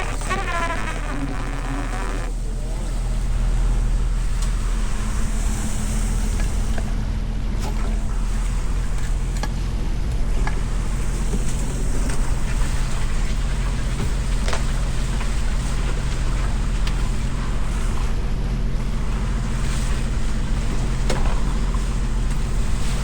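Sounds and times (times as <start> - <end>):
boat engine running: 0.0 - 23.0
water noise: 0.0 - 23.0
wind: 0.0 - 23.0.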